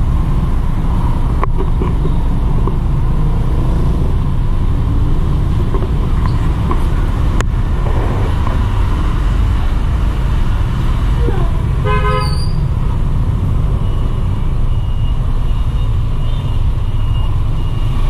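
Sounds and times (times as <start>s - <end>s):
motor vehicle rumbling: 0.0s - 18.0s.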